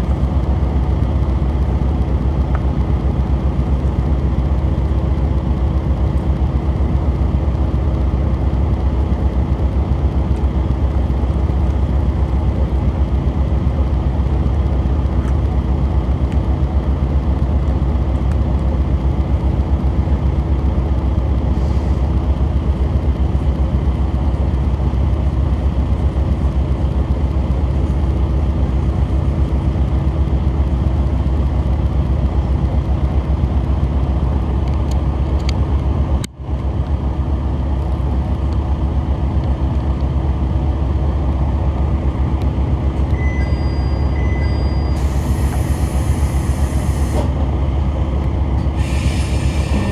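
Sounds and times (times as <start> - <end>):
diesel railcar engine rumble: 0.0 - 49.9.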